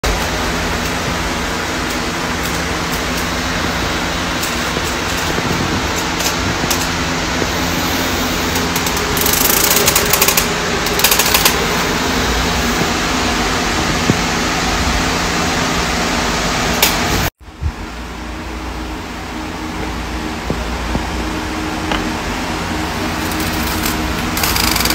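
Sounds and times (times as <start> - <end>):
electric fan whirring: 0.0 - 24.9.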